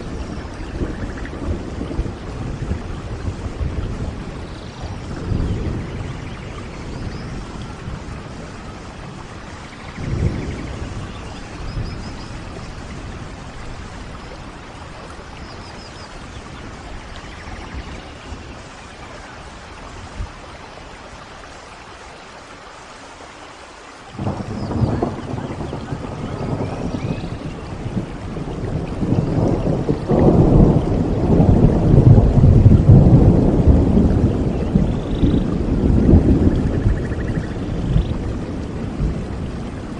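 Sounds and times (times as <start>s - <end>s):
thunder rumbling: 0.0s - 21.5s, 24.1s - 39.9s
steady rain: 0.0s - 39.9s.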